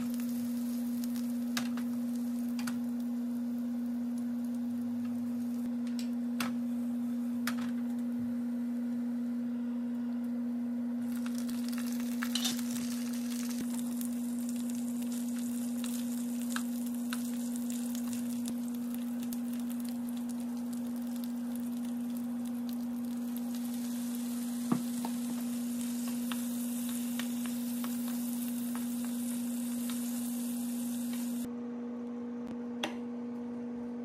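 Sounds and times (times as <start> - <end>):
oil sizzling in frying pan: 0.0 - 7.4, 11.0 - 31.5
low steady hum: 0.0 - 34.0.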